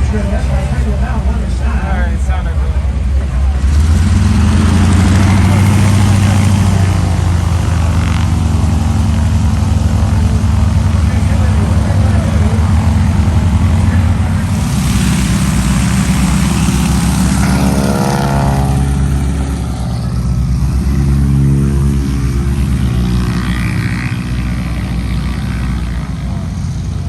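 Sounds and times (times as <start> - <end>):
loud vehicle engine running: 0.0 - 27.0.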